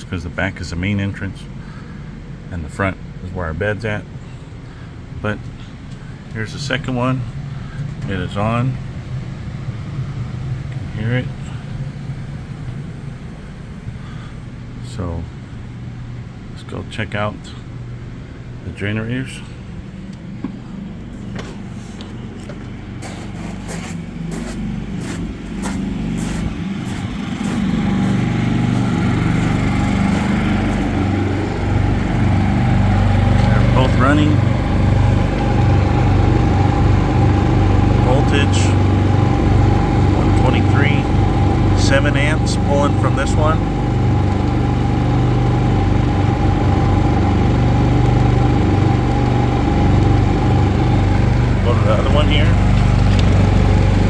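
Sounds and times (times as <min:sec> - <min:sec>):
generators humming: 0:00.0 - 0:54.0.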